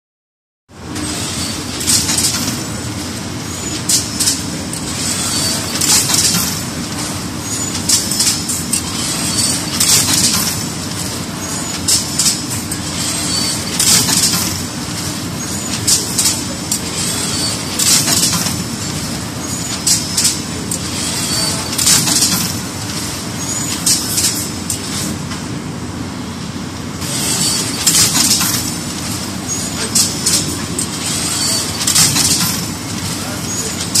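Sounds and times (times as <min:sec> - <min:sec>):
loom mechanical clatter: 0:00.8 - 0:25.5, 0:27.0 - 0:34.0.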